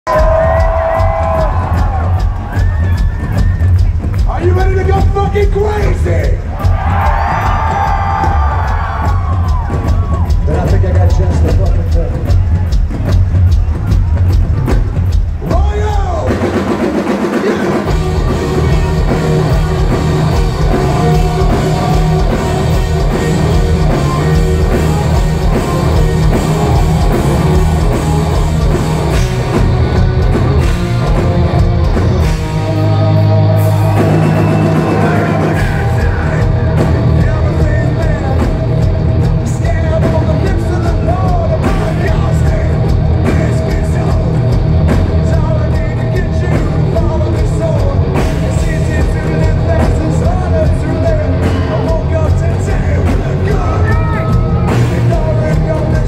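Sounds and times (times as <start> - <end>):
drums and bass: 0.0 - 56.0.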